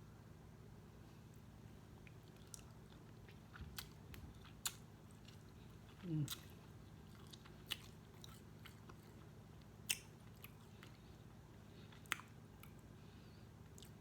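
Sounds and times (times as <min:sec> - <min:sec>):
chewing with small crunches: 0:01.2 - 0:14.0.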